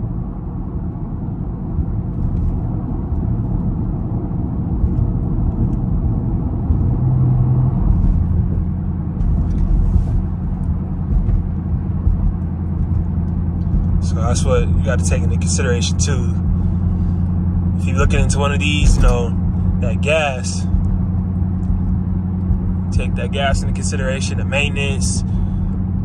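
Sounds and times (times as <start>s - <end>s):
car engine rumble inside cabin: 0.0s - 26.0s
road noise: 0.0s - 26.0s.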